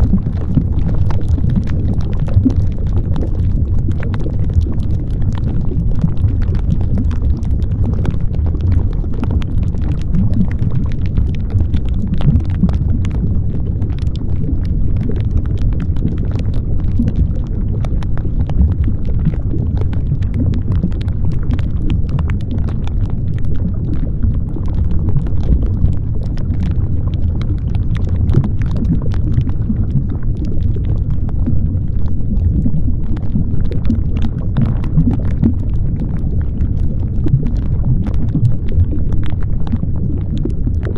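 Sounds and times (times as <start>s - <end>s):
low rumbling noise with crackles: 0.0s - 40.9s.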